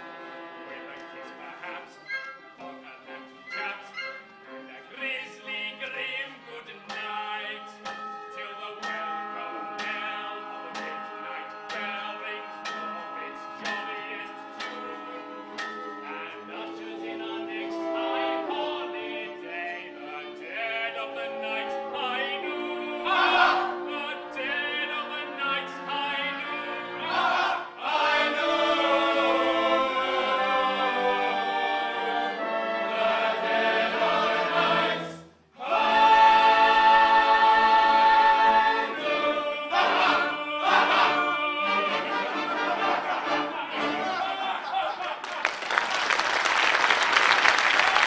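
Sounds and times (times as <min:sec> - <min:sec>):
chorus singing operatic music: 0:00.0 - 0:48.0.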